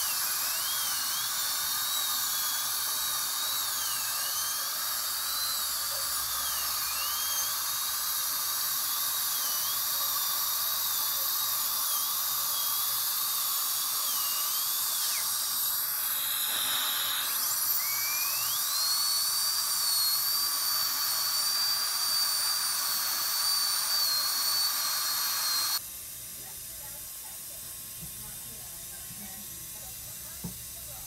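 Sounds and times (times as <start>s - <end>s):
dental drill whine: 0.0s - 25.8s.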